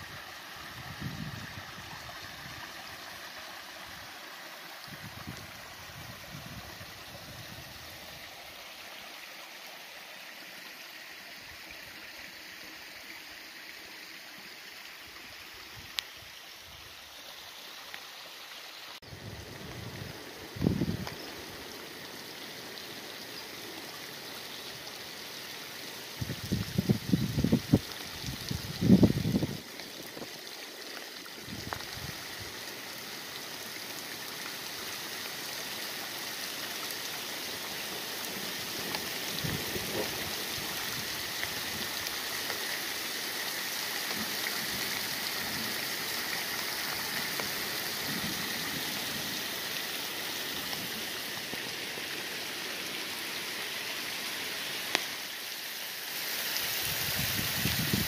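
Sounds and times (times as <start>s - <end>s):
rain falling on river: 0.0s - 58.0s.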